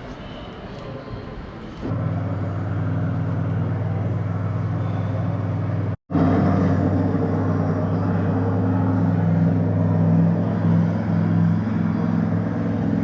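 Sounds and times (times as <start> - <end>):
car engine drone and road noise: 0.0 - 13.0.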